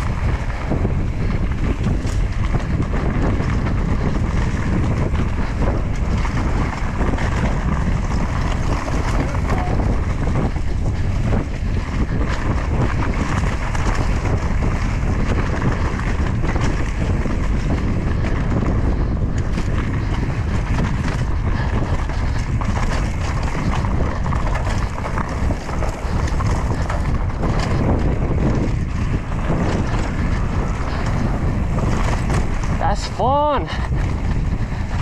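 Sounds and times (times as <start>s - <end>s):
bike knocks and clatter: 0.0s - 34.6s
bike tyre and drivetrain noise: 0.0s - 35.0s
wind buffeting microphone: 0.0s - 35.0s.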